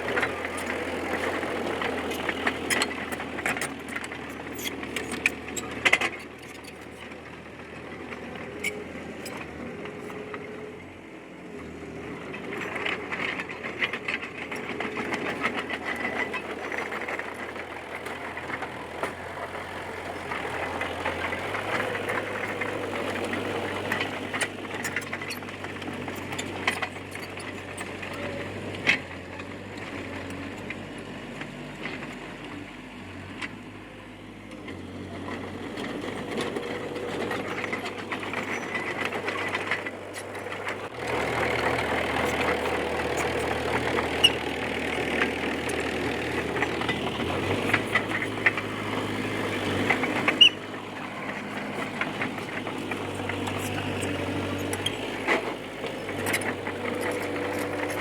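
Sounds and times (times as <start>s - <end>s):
tracks rattling and clanking: 0.0s - 10.6s, 12.2s - 29.8s, 35.2s - 58.0s
bulldozer diesel engine: 0.0s - 58.0s.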